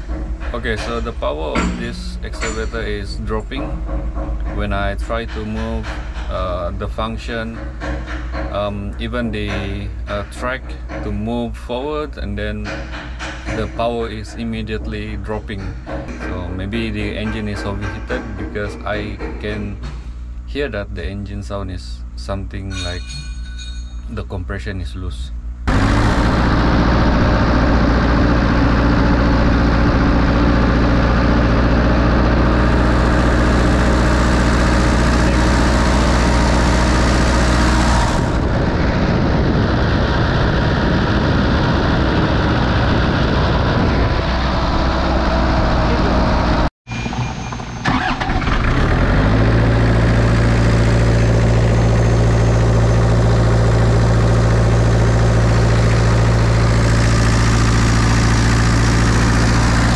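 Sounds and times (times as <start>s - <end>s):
diesel engine running: 0.0s - 21.1s, 25.5s - 59.9s.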